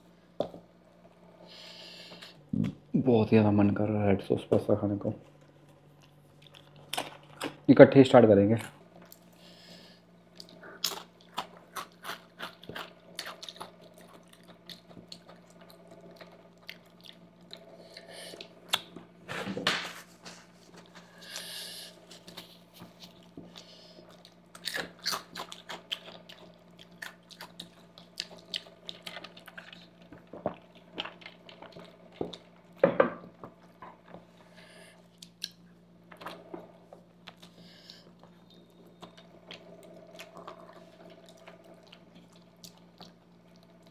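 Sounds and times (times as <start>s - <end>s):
person chewing pasta: 5.6s - 7.6s, 8.6s - 32.8s, 33.4s - 43.9s.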